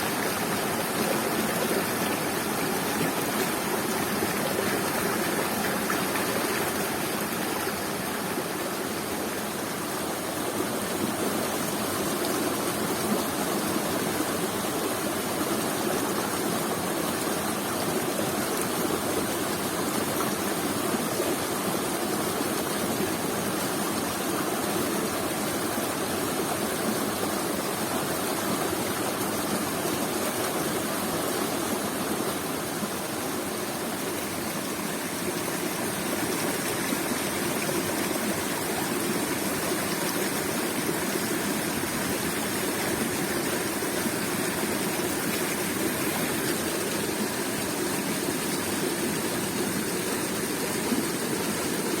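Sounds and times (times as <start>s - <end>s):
waterfall roaring: 0.0s - 52.0s.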